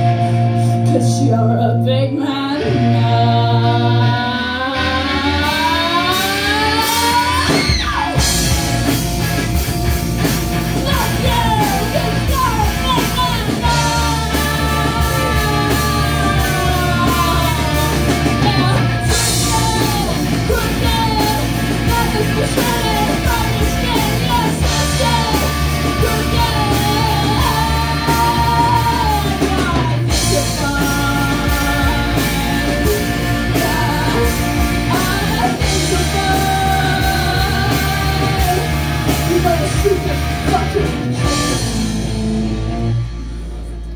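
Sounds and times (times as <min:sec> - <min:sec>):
person singing: 0:00.0 - 0:08.5, 0:10.7 - 0:41.8
bass guitar: 0:00.0 - 0:43.9
drums: 0:00.0 - 0:43.9
electric guitars: 0:00.0 - 0:43.9.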